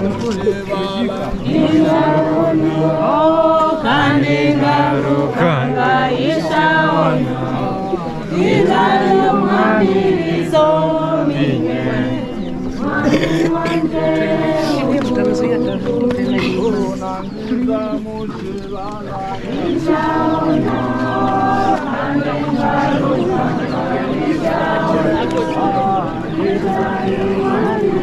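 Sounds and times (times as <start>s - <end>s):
group singing a hymn: 0.0s - 28.0s.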